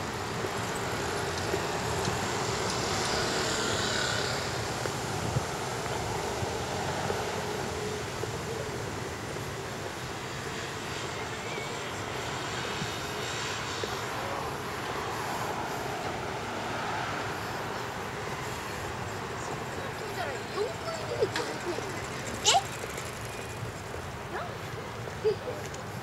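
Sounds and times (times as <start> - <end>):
aircraft engine drone overhead: 0.0 - 26.0
street noise: 0.0 - 26.0.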